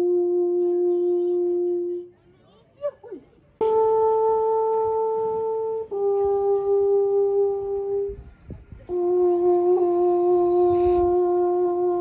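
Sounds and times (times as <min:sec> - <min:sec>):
alphorn long held notes: 0:00.0 - 0:02.2, 0:03.6 - 0:12.0.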